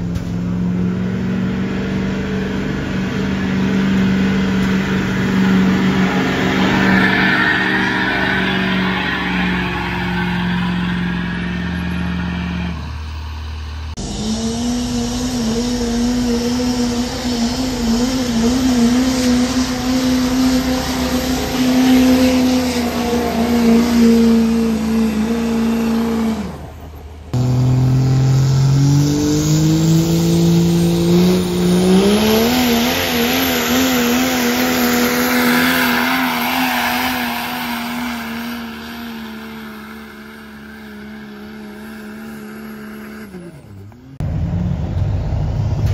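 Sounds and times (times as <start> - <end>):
truck engine at high revs: 0.0 - 45.9.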